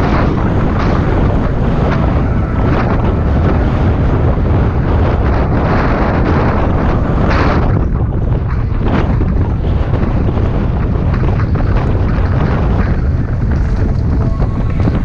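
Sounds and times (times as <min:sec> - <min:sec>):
bike tyres rolling over dirt: 0:00.0 - 0:15.0
wind buffeting microphone: 0:00.0 - 0:15.0.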